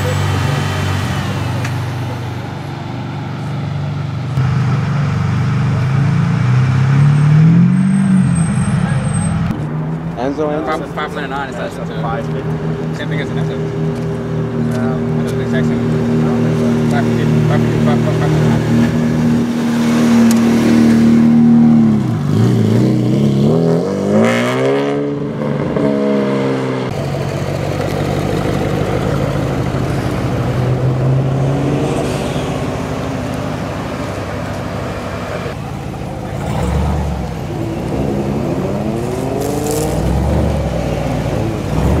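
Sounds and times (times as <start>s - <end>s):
other car engines running: 0.0s - 23.6s, 24.2s - 42.0s
car engine revving: 0.0s - 42.0s.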